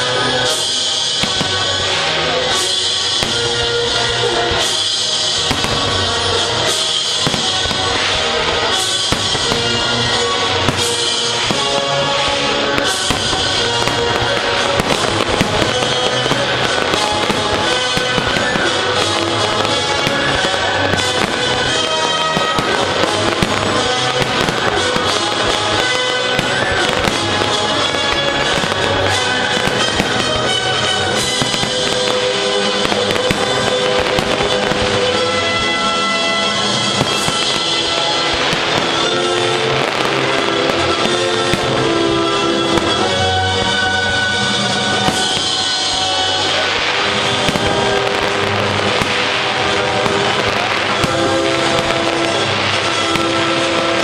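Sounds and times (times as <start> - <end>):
music playing: 0.0 - 54.0
firework shells bursting: 0.4 - 54.0.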